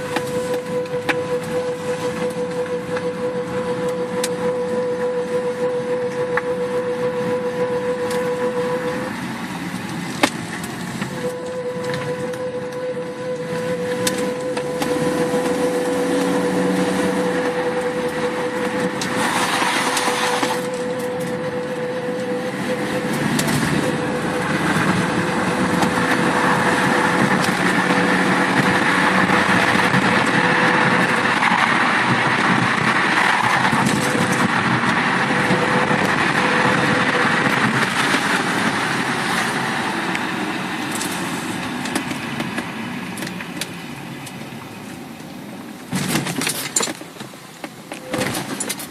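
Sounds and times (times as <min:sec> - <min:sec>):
steady humming tone: 0:00.0 - 0:46.0
road and tyre noise: 0:00.0 - 0:48.9.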